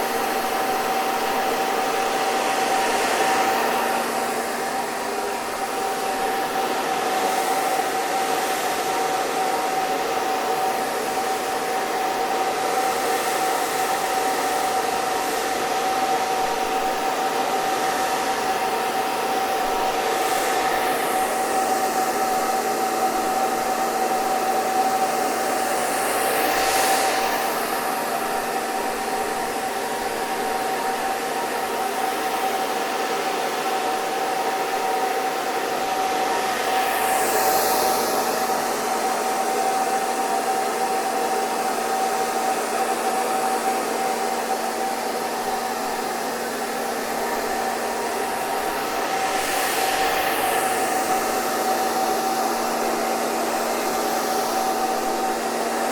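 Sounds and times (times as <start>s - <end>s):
hair dryer running: 0.0s - 55.9s.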